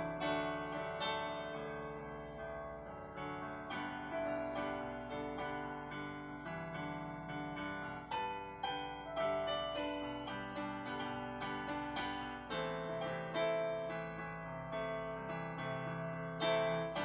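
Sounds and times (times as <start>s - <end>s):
digital piano melody over chords: 0.0s - 17.0s.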